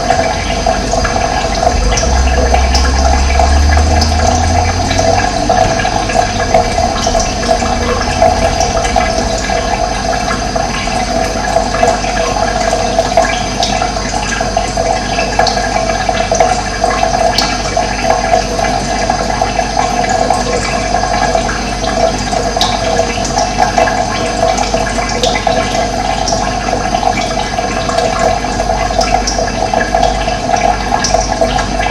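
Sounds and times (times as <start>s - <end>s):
running water rushing: 0.0s - 31.9s.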